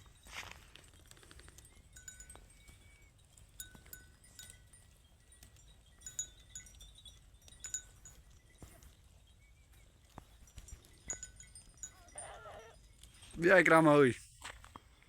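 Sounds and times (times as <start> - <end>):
small metal bells clinking: 0.0 - 15.0.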